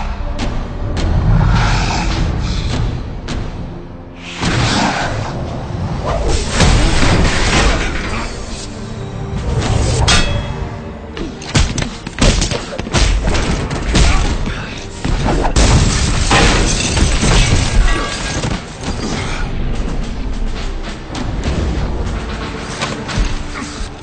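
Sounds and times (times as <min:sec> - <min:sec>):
action film music: 0:00.0 - 0:24.0.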